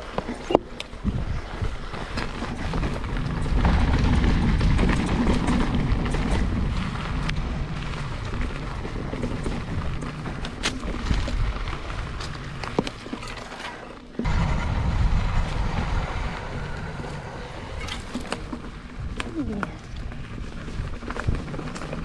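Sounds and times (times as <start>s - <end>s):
bike clicks and rattles: 0.0s - 14.3s, 16.4s - 22.0s
tyres rumbling on dirt: 0.0s - 22.0s
wind on microphone: 0.4s - 12.4s, 14.2s - 22.0s.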